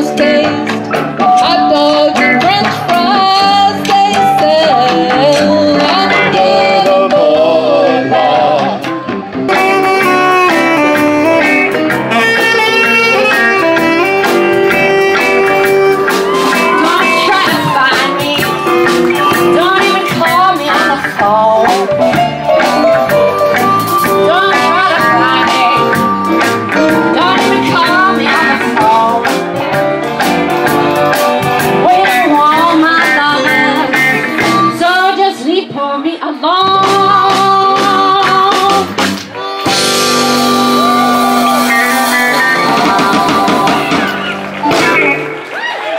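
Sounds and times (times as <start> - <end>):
woman singing lead: 0.0 - 45.0
live band playing: 0.0 - 45.9.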